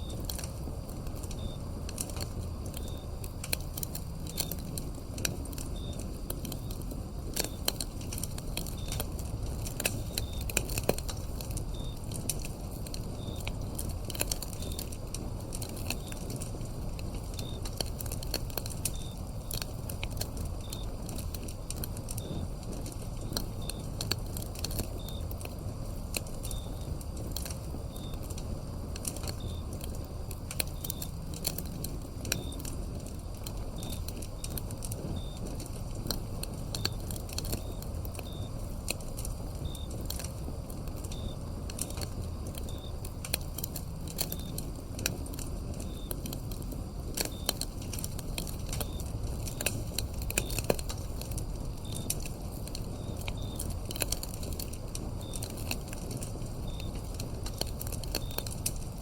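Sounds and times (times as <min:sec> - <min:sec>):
cricket chirping: 0:00.0 - 0:59.0
wood fire crackling: 0:00.0 - 0:59.0.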